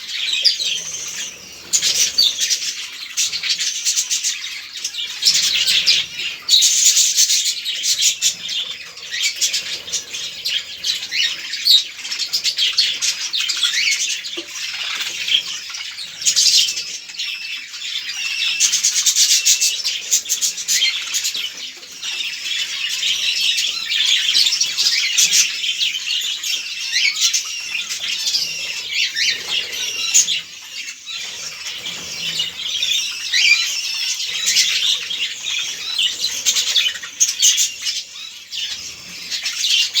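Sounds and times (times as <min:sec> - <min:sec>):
budgerigars chattering and chirping: 0:00.0 - 0:40.0.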